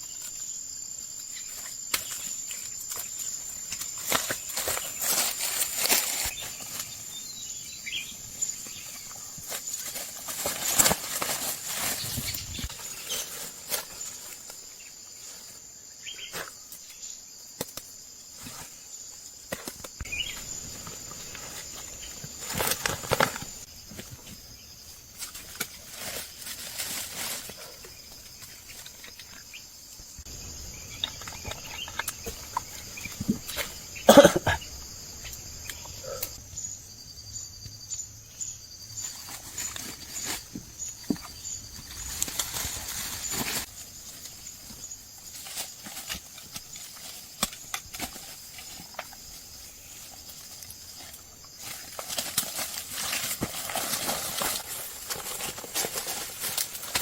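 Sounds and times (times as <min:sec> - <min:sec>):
rustles: 0:00.0 - 0:34.1, 0:38.4 - 0:57.0
insect chirring: 0:00.0 - 0:57.0.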